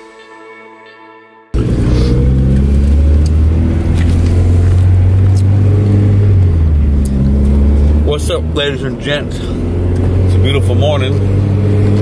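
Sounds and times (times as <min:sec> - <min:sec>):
car engine drone from cabin: 0:01.6 - 0:12.0.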